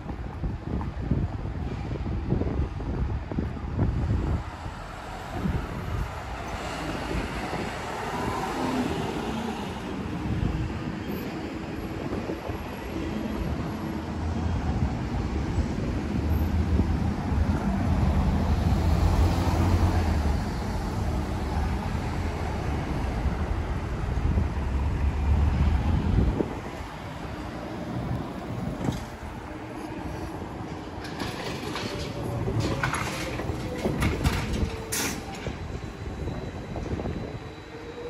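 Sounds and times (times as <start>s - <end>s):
passing vehicles: 0.0s - 38.0s.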